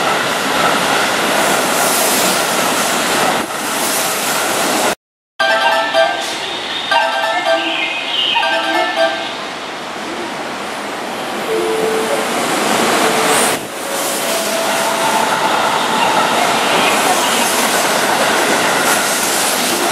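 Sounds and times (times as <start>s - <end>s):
electric train passing: 0.0s - 19.9s.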